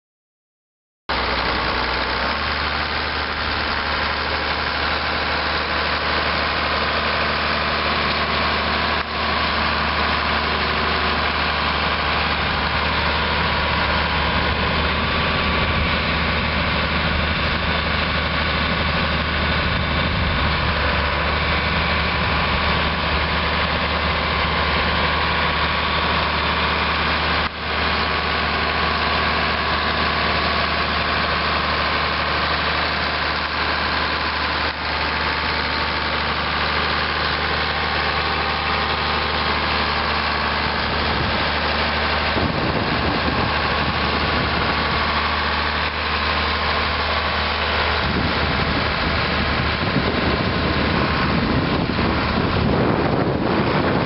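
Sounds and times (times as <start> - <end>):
tractor diesel engine running: 1.1 - 54.0.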